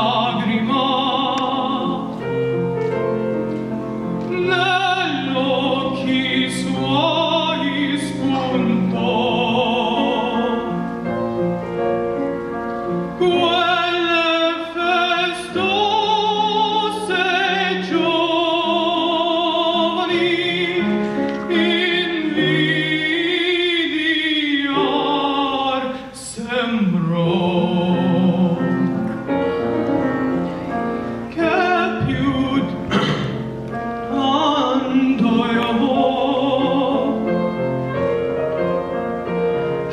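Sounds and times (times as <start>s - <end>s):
person singing opera-style: 0.0s - 2.4s, 4.0s - 11.0s, 13.0s - 29.7s, 31.2s - 38.0s
instrumental accompaniment: 0.0s - 25.8s, 26.9s - 39.9s.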